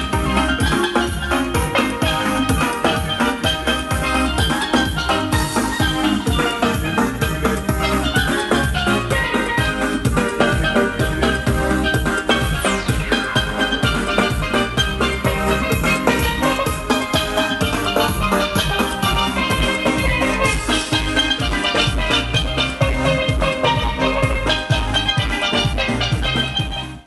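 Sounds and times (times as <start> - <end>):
steady drum beat: 0.0 - 27.0
steelpans playing fast melody: 0.0 - 27.0.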